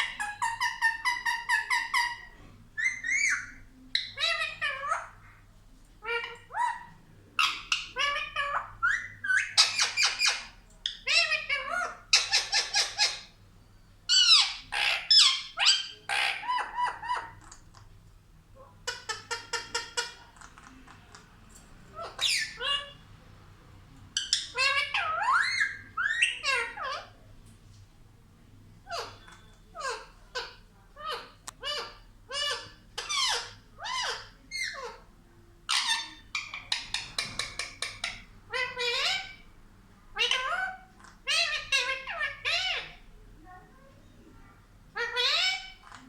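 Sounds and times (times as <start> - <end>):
parrot squawking: 0.0 - 5.2, 6.0 - 13.4, 14.1 - 17.6, 18.6 - 21.2, 21.9 - 23.0, 24.2 - 27.2, 28.8 - 35.1, 35.7 - 39.5, 40.1 - 43.1, 44.9 - 46.0.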